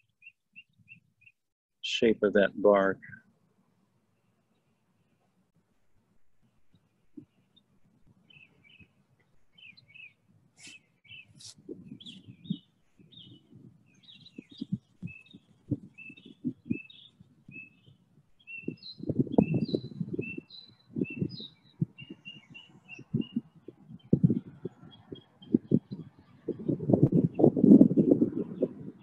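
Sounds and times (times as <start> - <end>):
small birds chirping: 0.0 - 1.4, 6.4 - 29.0.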